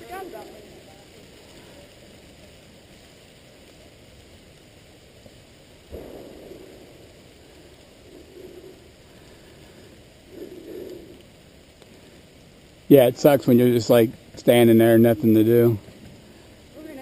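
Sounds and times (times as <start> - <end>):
falling rain: 0.0 - 17.0.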